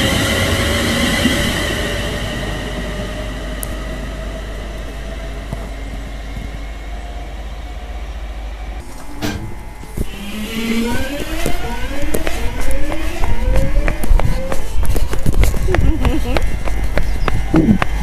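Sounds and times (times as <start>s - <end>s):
second train motor whine rising: 0.0s - 14.8s
electric train motor whine: 0.0s - 15.4s.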